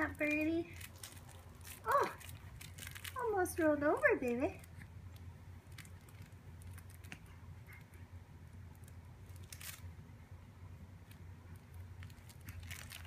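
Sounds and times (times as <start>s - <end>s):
fabric toys rustling and clicking: 0.0s - 8.0s, 8.6s - 9.9s, 11.0s - 13.0s
low steady hum: 0.0s - 13.0s.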